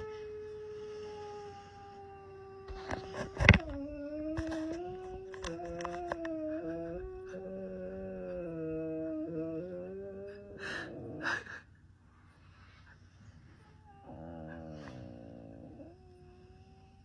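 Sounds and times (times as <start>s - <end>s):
dog howling: 0.0s - 11.5s, 13.7s - 17.0s.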